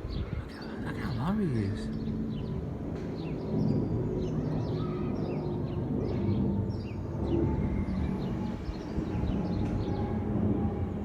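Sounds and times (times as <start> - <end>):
small birds chirping: 0.0 - 10.8
jet airliner droning overhead: 0.0 - 11.0.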